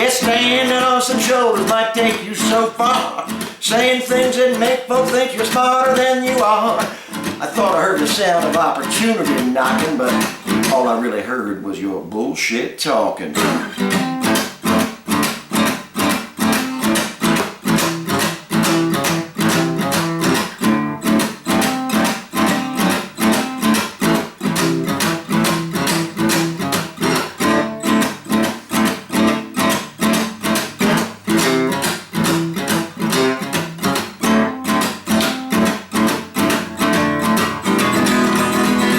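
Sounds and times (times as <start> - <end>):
acoustic guitar strumming blues: 0.0 - 38.9.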